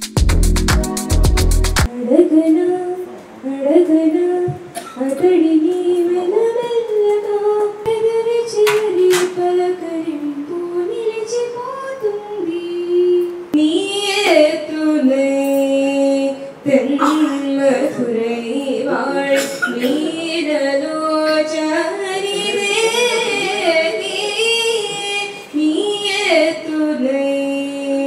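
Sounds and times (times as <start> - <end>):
girl singing unaccompanied: 0.8 - 28.0.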